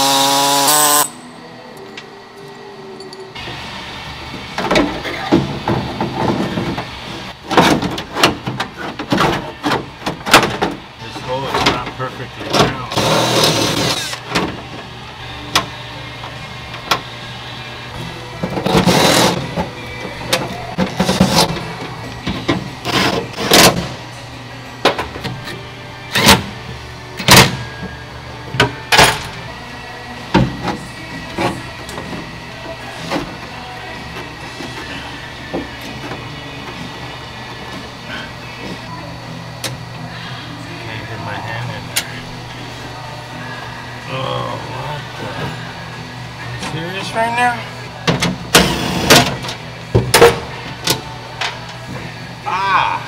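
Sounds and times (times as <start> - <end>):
faint music: 8.8 - 53.0.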